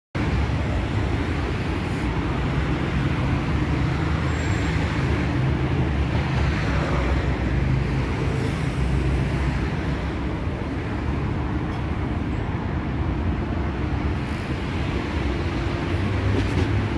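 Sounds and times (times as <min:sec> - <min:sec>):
road traffic rumble: 0:00.2 - 0:16.9.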